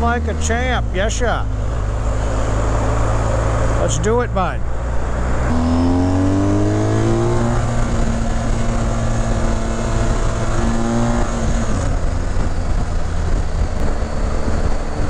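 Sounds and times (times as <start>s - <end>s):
motorcycle engine accelerating: 0.0s - 15.0s
road noise: 0.0s - 15.0s.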